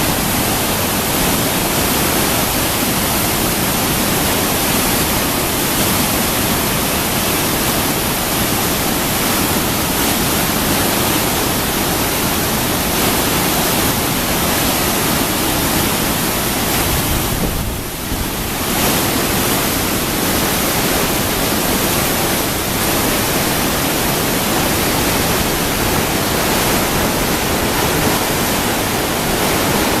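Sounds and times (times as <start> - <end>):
whitewater rushing: 0.0 - 30.0.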